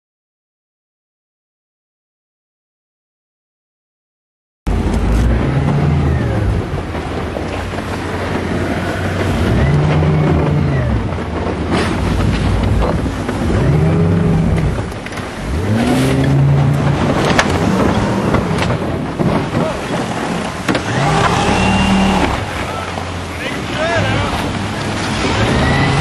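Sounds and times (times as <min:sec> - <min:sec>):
boat engines revving: 0:04.7 - 0:26.0.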